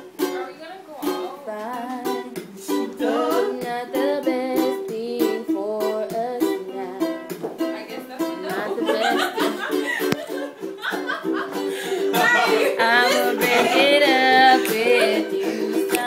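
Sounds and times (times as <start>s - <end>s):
strummed strings with steady beat: 0.0s - 16.0s
person singing: 1.0s - 10.2s, 11.6s - 16.0s.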